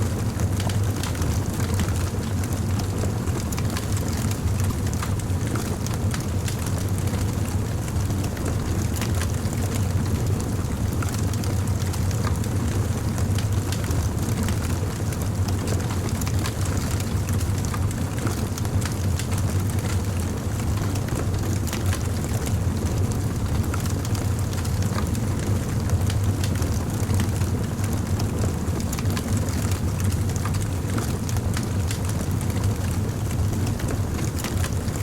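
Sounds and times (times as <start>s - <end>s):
fire crackling and popping: 0.1s - 35.0s.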